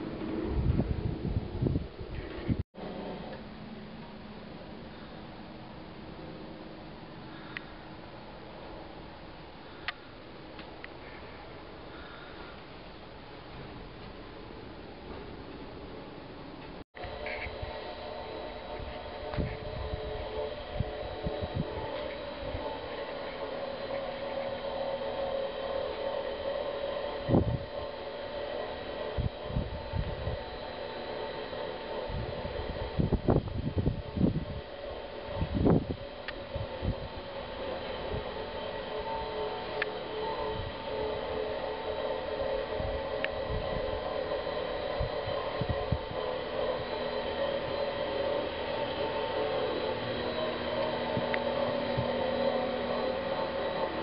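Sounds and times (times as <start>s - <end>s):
machinery hum with held tone: 0.0s - 54.0s.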